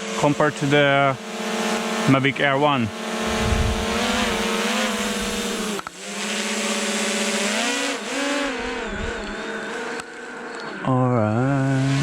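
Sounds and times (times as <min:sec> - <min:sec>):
drone propellers whining: 0:00.7 - 0:12.0.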